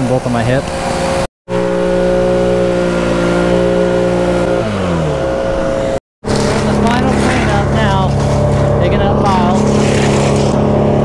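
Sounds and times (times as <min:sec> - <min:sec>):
engine running at high revs: 0:00.0 - 0:11.0.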